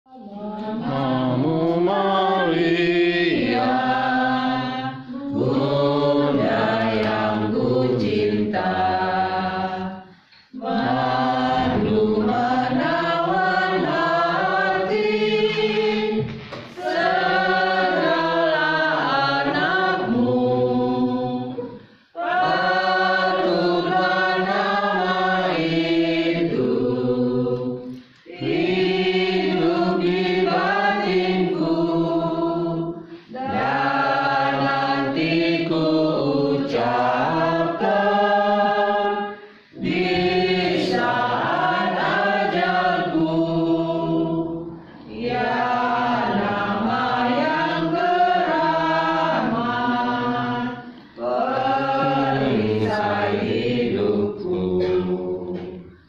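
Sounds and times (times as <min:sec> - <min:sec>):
group singing liturgical song: 0:00.1 - 0:56.0.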